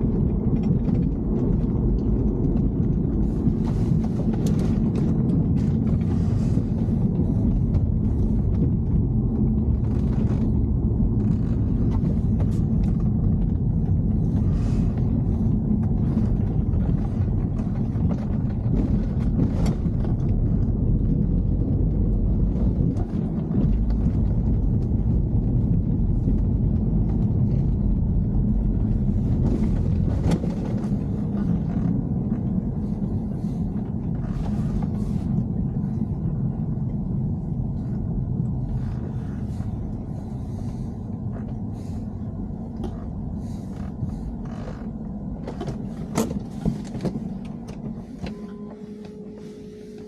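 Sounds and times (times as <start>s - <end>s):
car road rumble: 0.0s - 50.0s.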